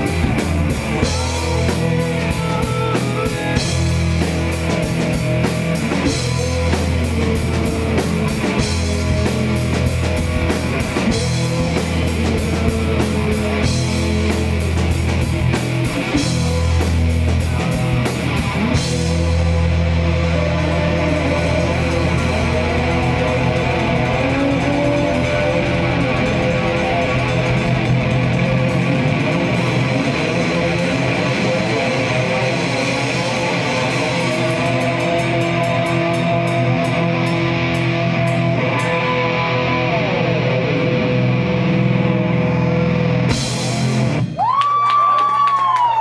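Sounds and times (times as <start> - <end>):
distorted electric guitar: 0.0 - 44.6
rock band playing: 0.0 - 46.0.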